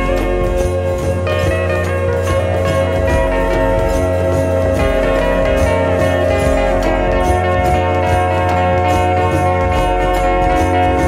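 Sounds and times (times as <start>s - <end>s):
background music with steady beat: 0.0s - 11.0s
jingling percussion: 0.0s - 11.0s
plucked guitar notes: 0.0s - 11.0s.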